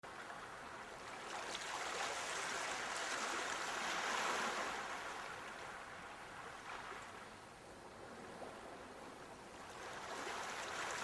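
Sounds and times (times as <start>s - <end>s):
sea waves breaking: 0.1s - 11.0s.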